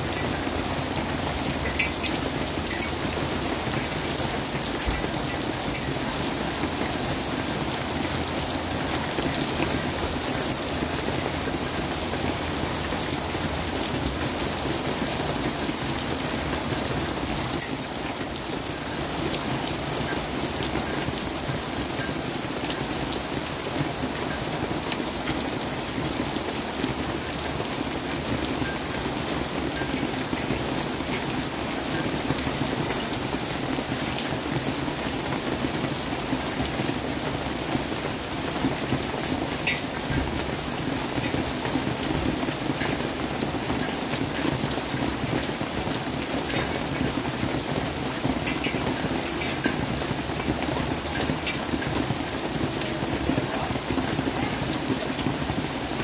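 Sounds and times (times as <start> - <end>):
heavy rain hissing: 0.0 - 56.0
raindrops ticking: 0.0 - 56.0.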